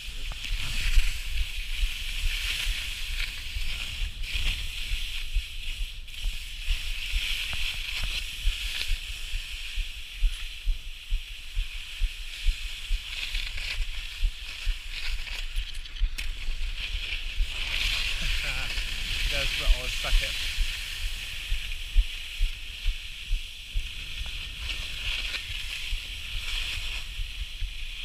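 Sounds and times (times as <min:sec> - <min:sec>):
skis scraping over snow: 0:00.0 - 0:28.0
wind buffeting microphone: 0:00.0 - 0:28.0.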